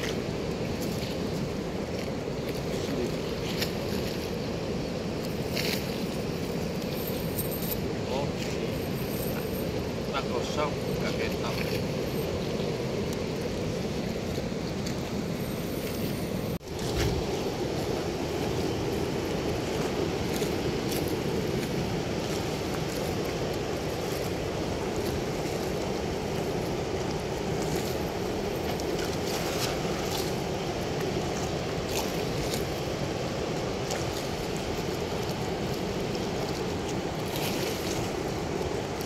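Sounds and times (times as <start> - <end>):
water rushing through sluice gate: 0.0 - 39.0.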